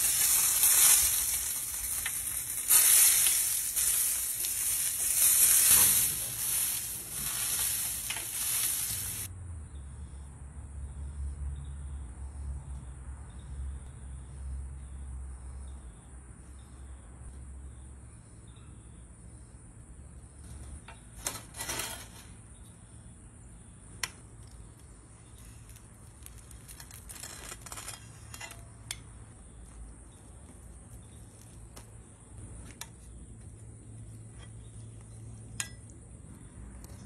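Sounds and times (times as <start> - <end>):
cricket drone: 0.0 - 37.0.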